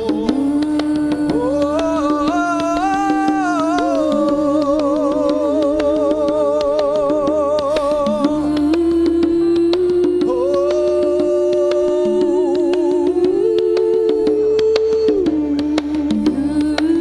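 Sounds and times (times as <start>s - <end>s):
low sustained note: 0.0s - 17.0s
voices singing long notes: 0.0s - 17.0s.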